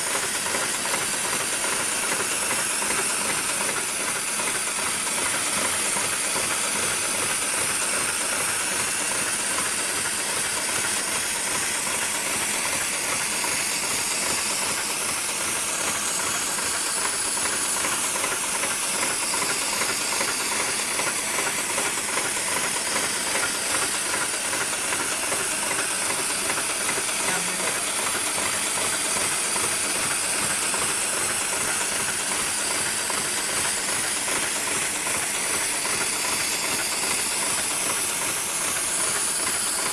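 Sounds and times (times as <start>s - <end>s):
sewing machine clattering: 0.0s - 39.9s.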